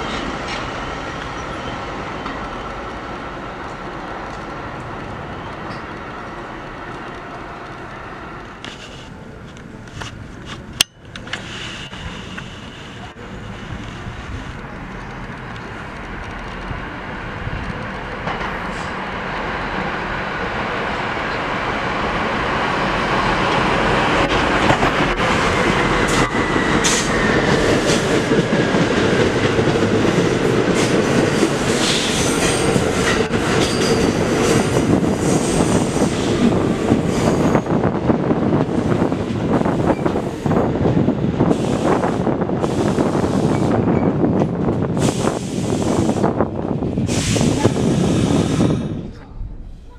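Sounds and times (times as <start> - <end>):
train passing: 0.0 - 49.9.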